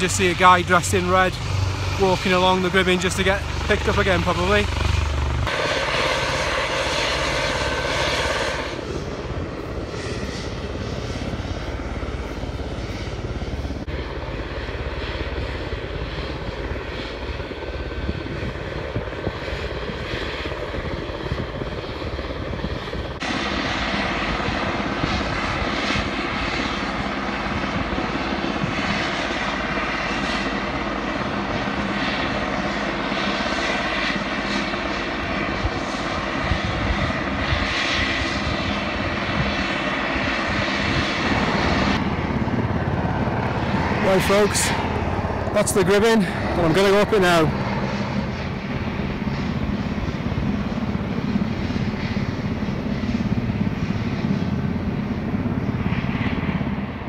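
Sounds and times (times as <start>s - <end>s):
helicopter turbine and rotor whine: 0.0s - 57.0s.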